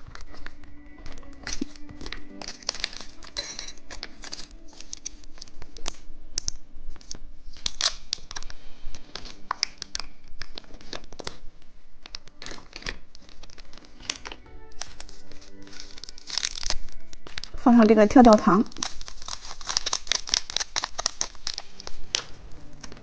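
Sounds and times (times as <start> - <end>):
plastic wrapper tearing and crinkling: 0.0 - 23.0.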